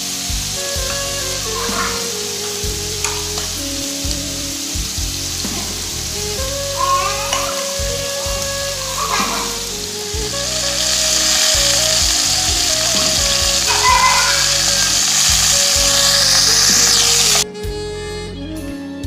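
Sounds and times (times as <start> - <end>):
stew sizzling in a pot: 0.0 - 17.4
background music: 0.0 - 19.0.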